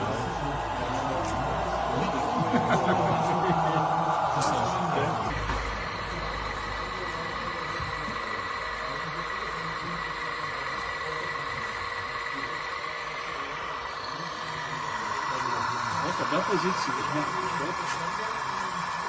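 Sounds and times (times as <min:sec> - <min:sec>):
toy construction machine whining: 0:00.0 - 0:19.0.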